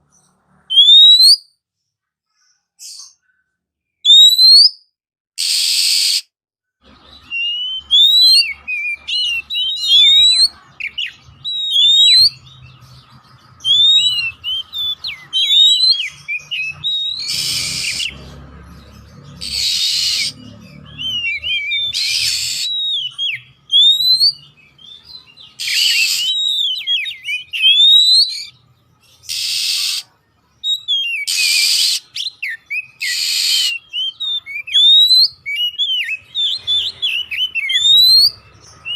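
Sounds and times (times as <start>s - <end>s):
harsh rasping bird calls: 0.0s - 1.5s, 5.4s - 6.2s, 6.8s - 38.9s
bird singing whistled notes: 0.1s - 1.6s, 4.0s - 6.3s, 6.9s - 38.9s.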